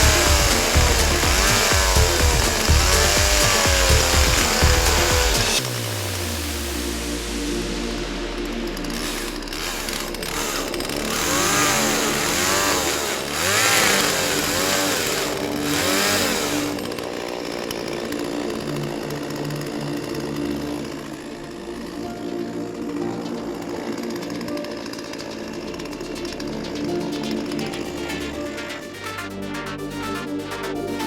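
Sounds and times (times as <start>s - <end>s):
chainsaw engine revving: 0.0s - 6.8s, 8.4s - 28.7s.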